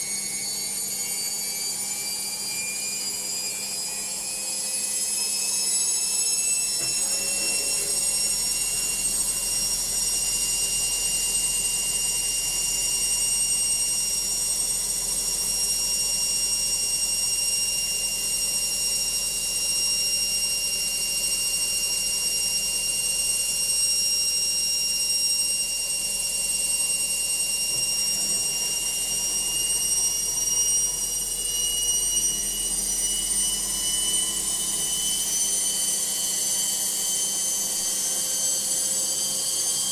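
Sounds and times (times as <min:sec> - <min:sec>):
washing machine spinning: 0:03.1 - 0:39.9.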